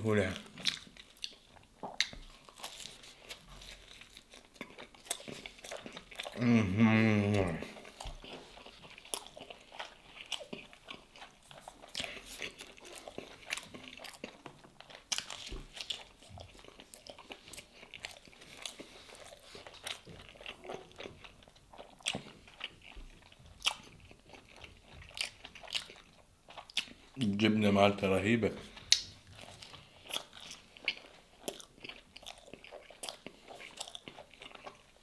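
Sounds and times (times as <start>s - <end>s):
chewing bread: 0.2s - 35.0s.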